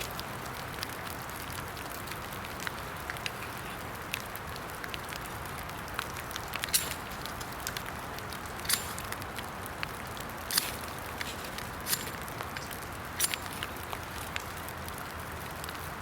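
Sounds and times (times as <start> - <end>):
fire crackling and popping: 0.0 - 16.0
rain hissing: 0.0 - 16.0.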